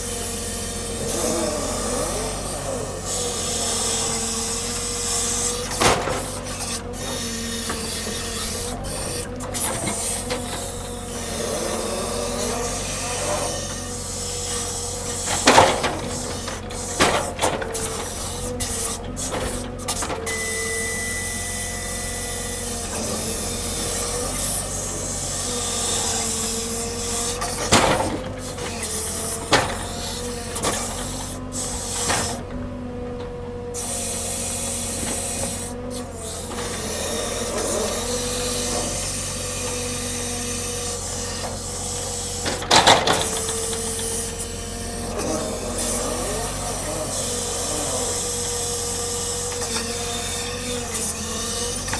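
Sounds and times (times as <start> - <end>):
machinery whine: 0.0 - 51.9.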